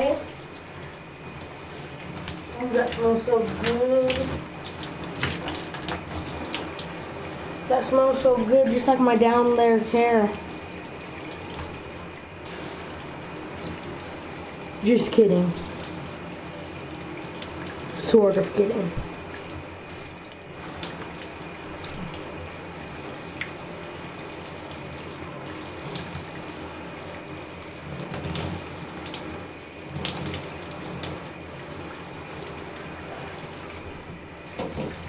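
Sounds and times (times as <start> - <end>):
shower running: 0.0 - 35.0.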